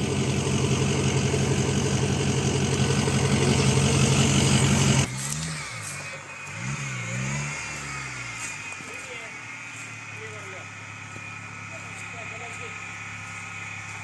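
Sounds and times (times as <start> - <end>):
engine revving up and down: 0.0 - 14.0
off-road vehicle engine at high revs: 0.0 - 14.0.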